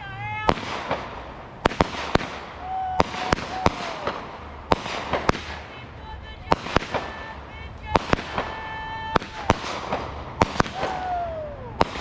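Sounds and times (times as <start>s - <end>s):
fireworks bangs: 0.0s - 12.0s
fireworks crackling: 0.0s - 12.0s
fireworks whistle: 0.4s - 12.0s.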